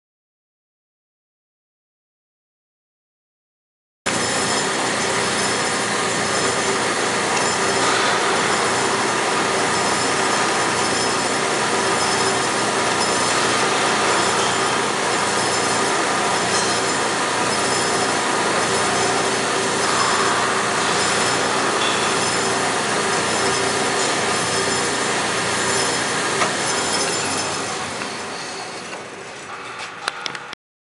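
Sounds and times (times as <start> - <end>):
band saw cutting plastic: 4.1 - 30.5
machine whine: 4.1 - 30.6.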